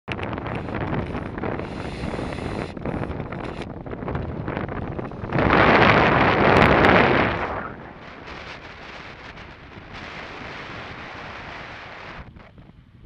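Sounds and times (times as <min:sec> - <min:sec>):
wind buffeting a microphone: 0:00.1 - 0:13.0.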